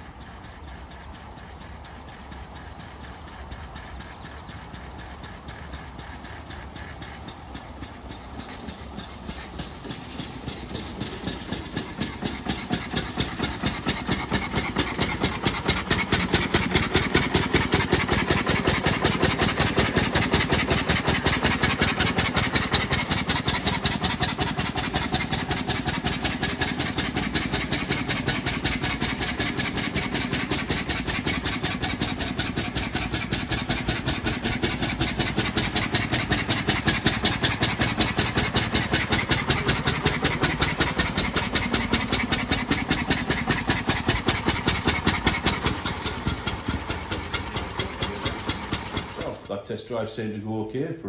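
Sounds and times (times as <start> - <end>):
car engine running: 0.0 - 49.8.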